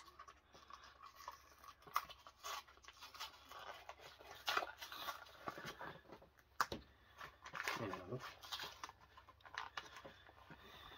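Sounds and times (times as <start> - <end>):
rustling and scraping of wrapping: 0.0 - 10.9.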